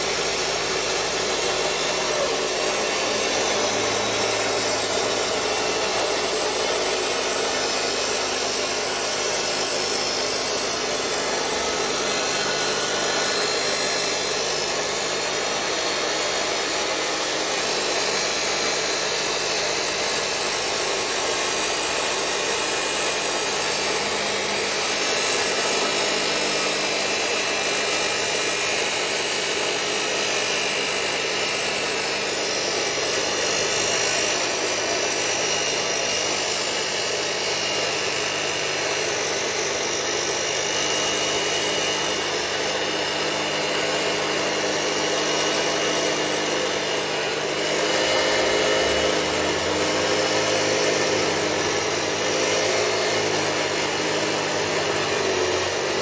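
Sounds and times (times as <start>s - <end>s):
cut-off saw grinding through steel: 0.0s - 56.0s.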